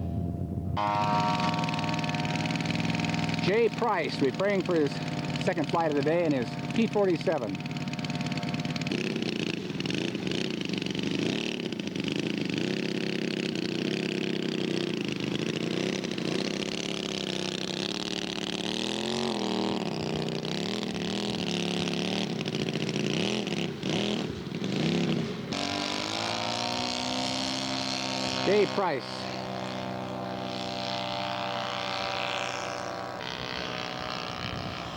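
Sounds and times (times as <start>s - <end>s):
model airplane engines: 0.0s - 34.9s.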